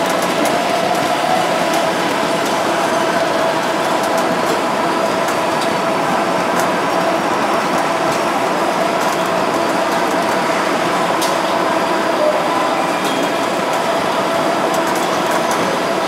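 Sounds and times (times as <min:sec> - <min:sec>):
conveyor belts humming: 0:00.0 - 0:16.0.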